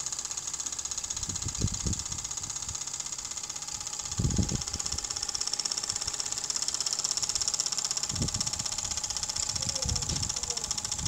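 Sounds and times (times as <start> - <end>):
steam engine exhaust beat: 0.0 - 11.0.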